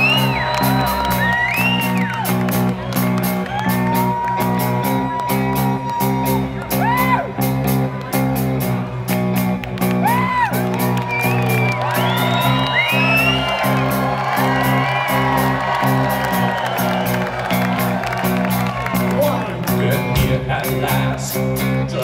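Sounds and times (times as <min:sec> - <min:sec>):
drums: 0:00.0 - 0:22.0
held bass notes: 0:00.0 - 0:22.0.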